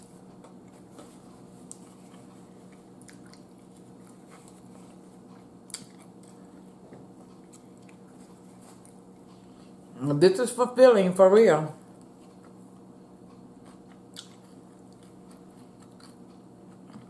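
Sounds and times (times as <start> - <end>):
person chewing a sandwich: 0.0 - 10.0, 12.0 - 17.0.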